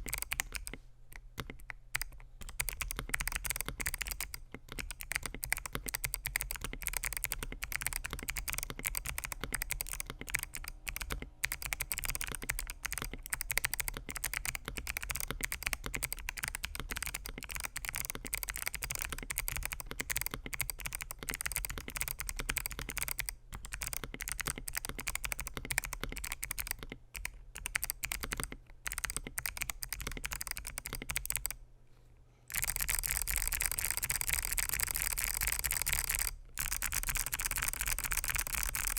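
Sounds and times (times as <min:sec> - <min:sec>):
mechanical keyboard typing: 0:00.0 - 0:31.6, 0:32.5 - 0:38.9.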